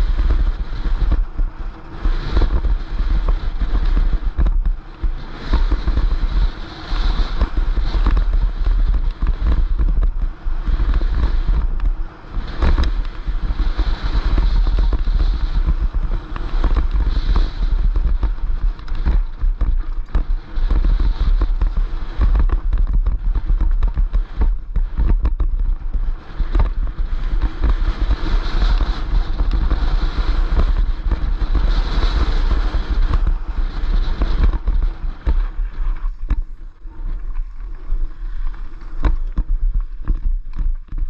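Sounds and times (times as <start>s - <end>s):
bike knocking and rattling: 0.0s - 41.0s
tyres running over gravel: 0.0s - 41.0s
wind buffeting microphone: 0.0s - 41.0s.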